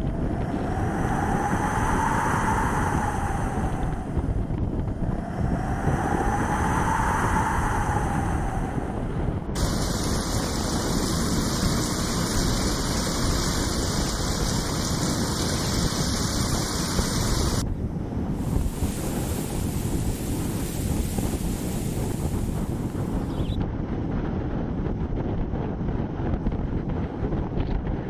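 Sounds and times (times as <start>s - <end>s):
wind blowing across microphone: 0.0s - 28.0s.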